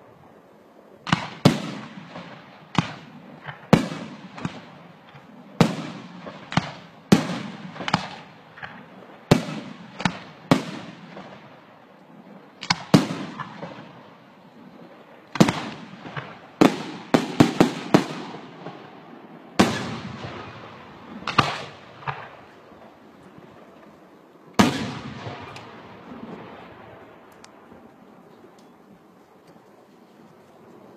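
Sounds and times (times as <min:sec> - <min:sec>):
fireworks bangs: 0:01.1 - 0:11.8, 0:12.5 - 0:27.8.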